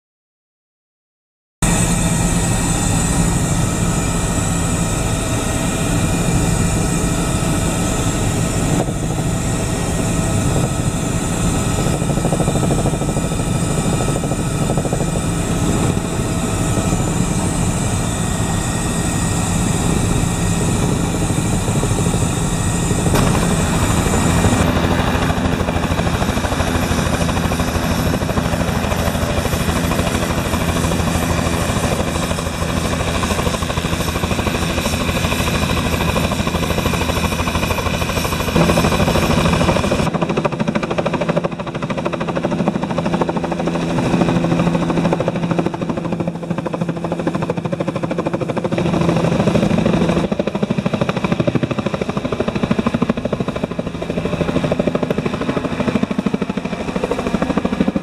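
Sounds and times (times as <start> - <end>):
helicopter rotor beat: 1.6 - 58.0
high helicopter whine: 1.6 - 58.0.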